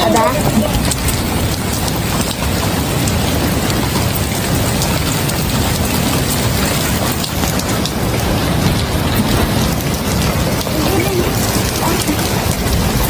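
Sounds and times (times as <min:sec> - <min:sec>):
fine water patter: 0:00.0 - 0:13.0
floodwater rushing: 0:00.0 - 0:13.0.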